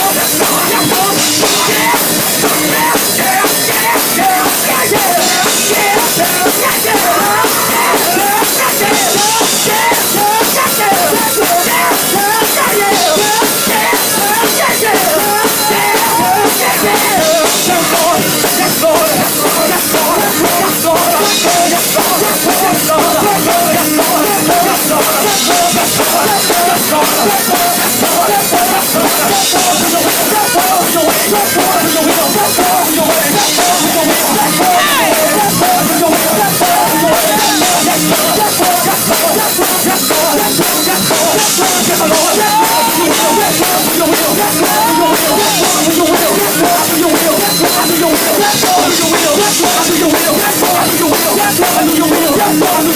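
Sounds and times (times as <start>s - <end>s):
live gospel music: 0.0s - 52.9s.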